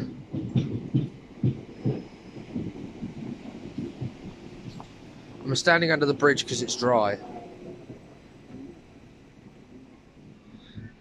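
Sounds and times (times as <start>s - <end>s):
electric train pulling in: 0.0s - 11.0s
low irregular thuds: 0.0s - 11.0s.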